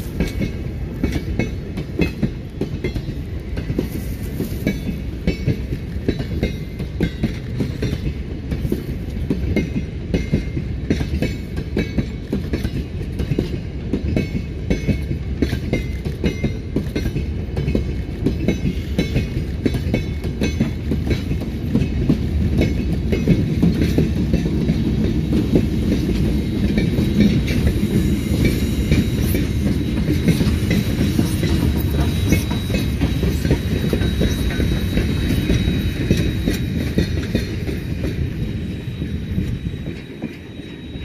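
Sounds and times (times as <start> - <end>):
train rumble: 0.0 - 41.0
train wheels clattering over rail joints: 0.0 - 41.0.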